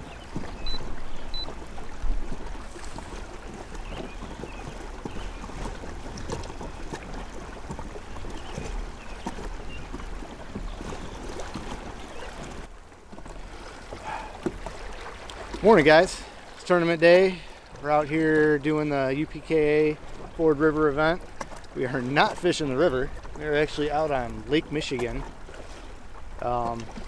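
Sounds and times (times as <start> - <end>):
water splashing against kayak hull: 0.0 - 27.0.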